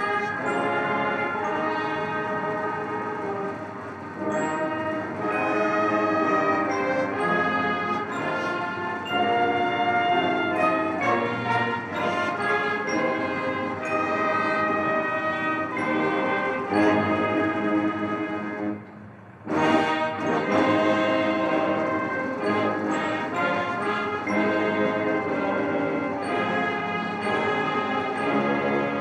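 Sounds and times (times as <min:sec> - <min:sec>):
brass band playing slow chords: 0:00.0 - 0:29.0.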